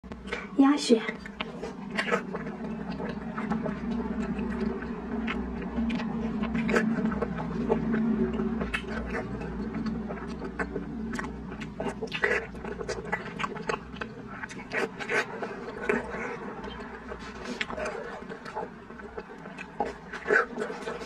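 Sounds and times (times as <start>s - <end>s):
low steady hum: 0.0s - 21.0s
wet chewing and slurping: 0.1s - 21.0s.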